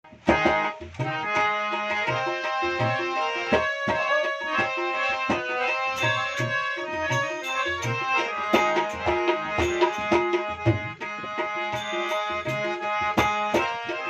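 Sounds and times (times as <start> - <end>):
harmonium melody: 0.0 - 14.0
hand drum beat: 0.1 - 14.0.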